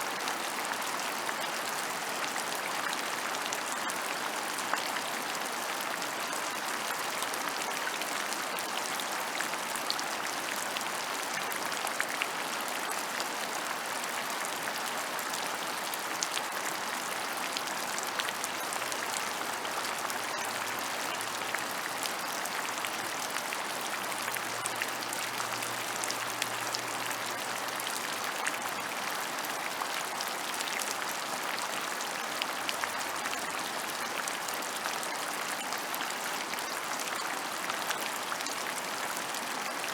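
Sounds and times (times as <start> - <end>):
steady rain on open ground: 0.0 - 39.9.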